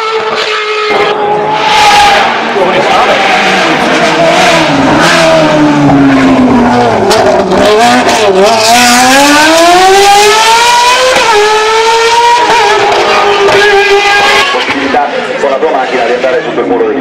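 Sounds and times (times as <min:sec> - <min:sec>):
race car engine revving: 0:00.0 - 0:16.5.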